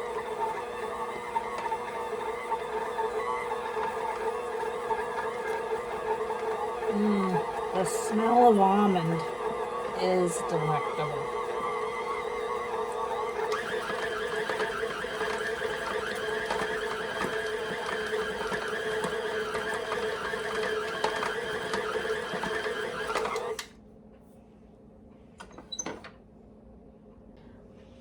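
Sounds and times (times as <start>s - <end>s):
food processor motor running: 0.0s - 23.7s.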